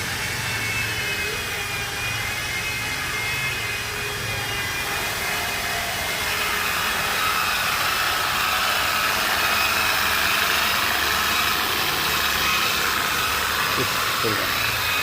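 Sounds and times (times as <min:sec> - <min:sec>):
polishing machine whining: 0:00.0 - 0:15.0.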